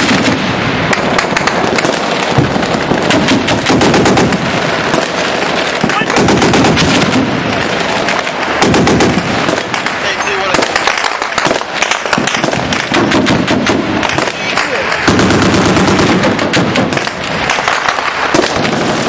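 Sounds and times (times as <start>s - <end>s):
automatic gunfire: 0.0s - 19.0s.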